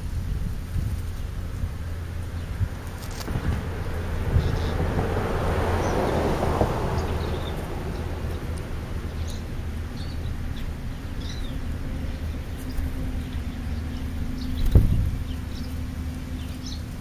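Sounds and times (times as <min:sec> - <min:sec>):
rush of noise: 0:00.0 - 0:17.0
small birds chirping: 0:00.0 - 0:17.0
steady low hum: 0:00.0 - 0:17.0.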